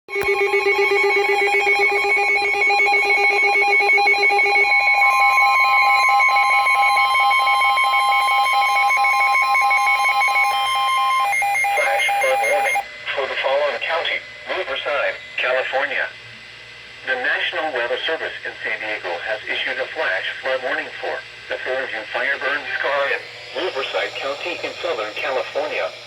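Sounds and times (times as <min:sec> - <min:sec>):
buzzy electronic alarm tones: 0:00.1 - 0:16.2, 0:16.8 - 0:26.0
steady high warning tone: 0:00.1 - 0:26.0.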